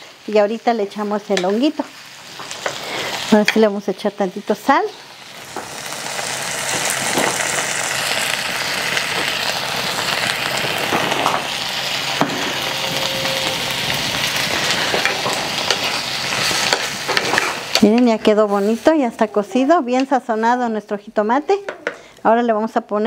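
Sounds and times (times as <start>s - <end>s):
vegetables sizzling in frying pan: 0.0s - 22.0s.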